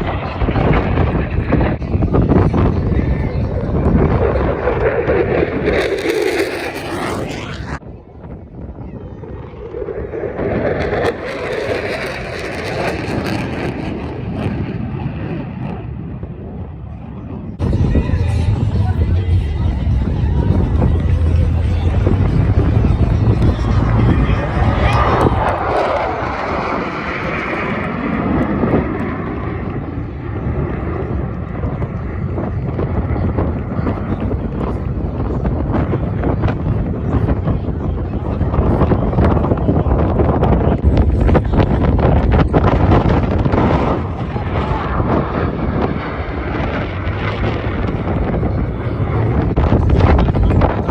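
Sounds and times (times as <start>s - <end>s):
aircraft engine flying past: 0.0s - 50.9s
wind rumble on microphone: 0.0s - 50.9s.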